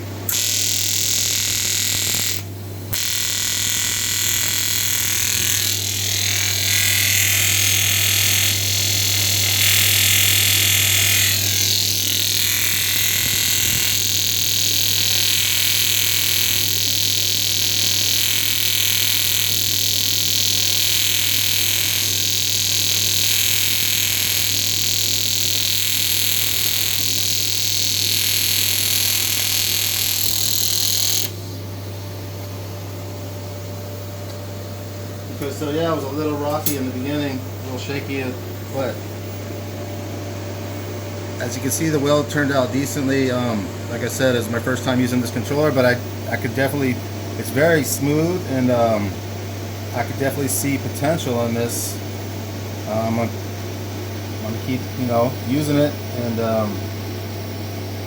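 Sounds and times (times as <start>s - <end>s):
welding arc hissing and buzzing: 0.0s - 58.0s.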